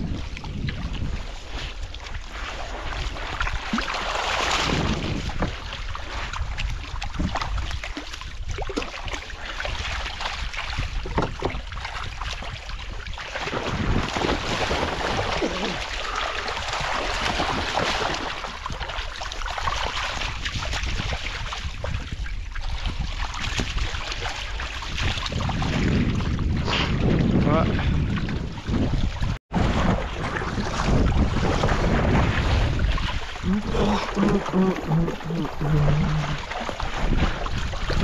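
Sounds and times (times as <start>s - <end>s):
river water splashing: 0.0s - 26.4s, 28.0s - 38.0s
wind rumbling on microphone: 0.0s - 38.0s.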